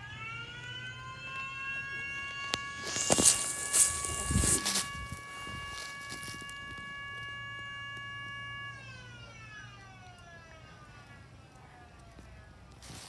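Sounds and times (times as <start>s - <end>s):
siren winding down: 0.0s - 12.4s.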